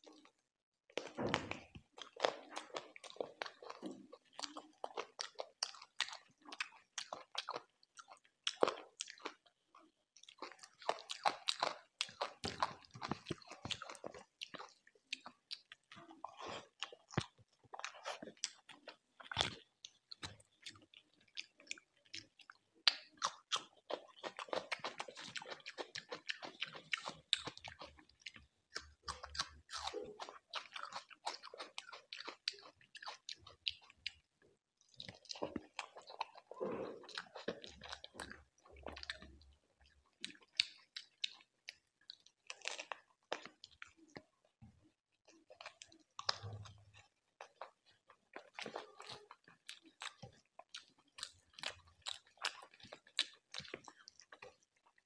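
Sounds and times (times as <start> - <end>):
chewing with mouth clicks: 1.0 - 44.6, 45.2 - 55.0.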